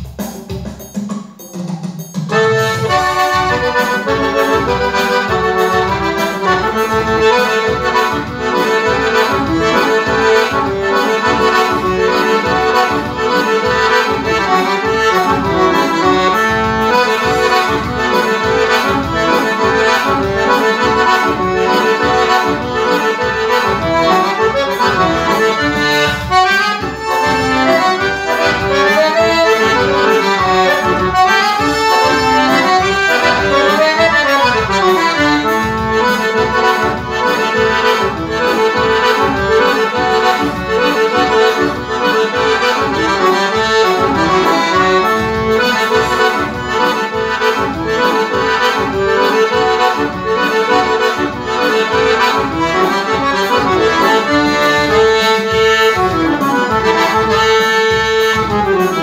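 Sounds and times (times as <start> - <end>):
accordion playing a lively tune: 0.0 - 59.0.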